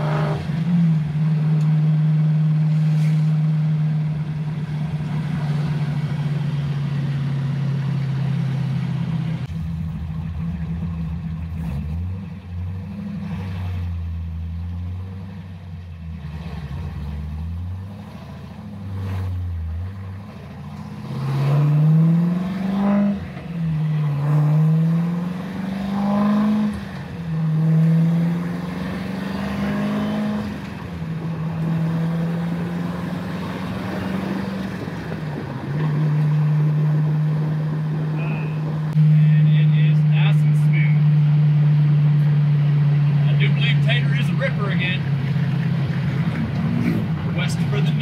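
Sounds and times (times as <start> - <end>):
car engine revving through gears: 0.0 - 48.0.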